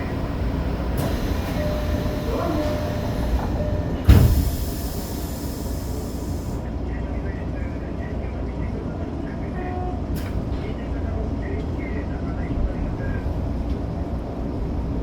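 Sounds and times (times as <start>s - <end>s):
train wheels rumbling on rail: 0.0s - 6.8s, 9.0s - 15.0s.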